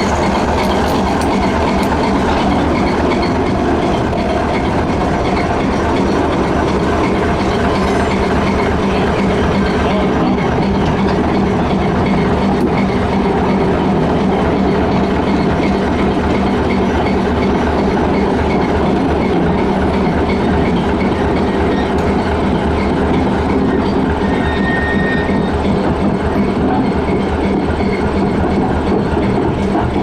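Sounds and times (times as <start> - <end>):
train rolling on rails: 0.0 - 30.0.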